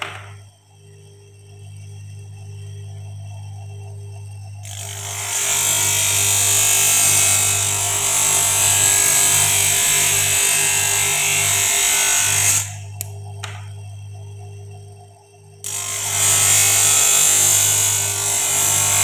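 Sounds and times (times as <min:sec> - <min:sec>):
motor low hum: 0:00.0 - 0:18.8.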